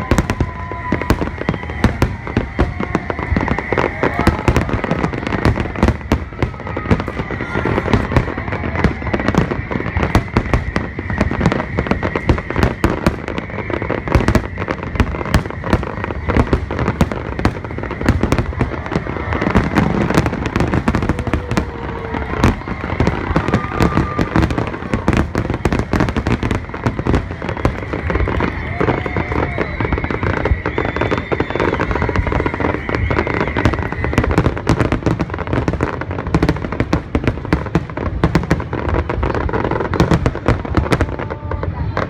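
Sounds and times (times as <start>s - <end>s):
fireworks bursting and crackling: 0.0s - 42.0s.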